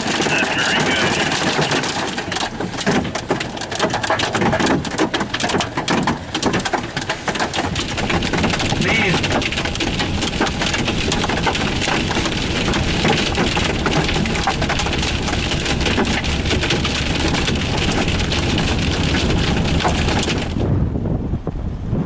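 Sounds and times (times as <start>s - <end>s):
heavy rain on car roof: 0.0s - 20.7s.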